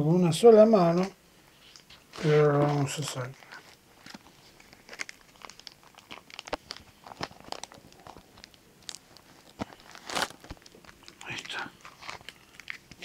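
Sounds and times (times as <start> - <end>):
envelope crinkling: 1.6 - 13.0.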